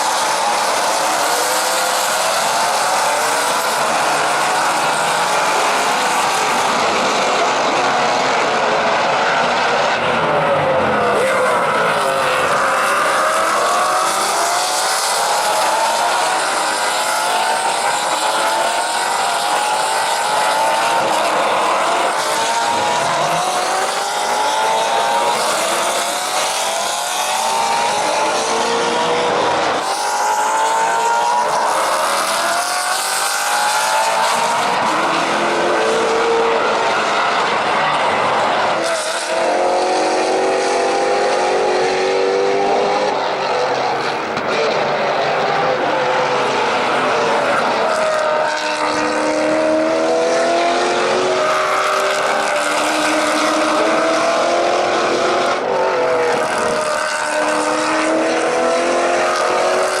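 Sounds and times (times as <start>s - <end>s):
race car engines accelerating: 0.0s - 60.0s.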